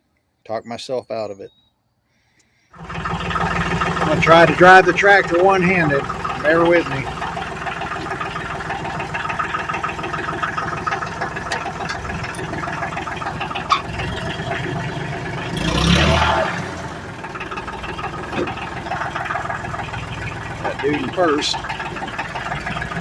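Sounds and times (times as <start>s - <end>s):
tractor diesel engine running: 2.8s - 23.0s.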